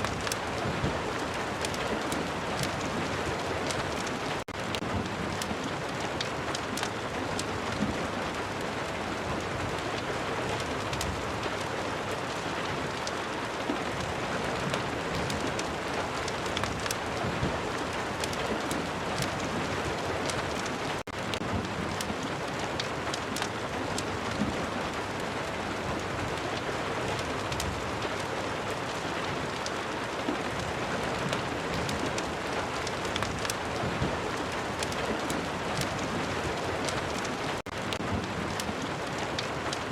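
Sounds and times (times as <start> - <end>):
rain pattering: 0.0 - 39.9
wood fire crackles: 0.0 - 39.9.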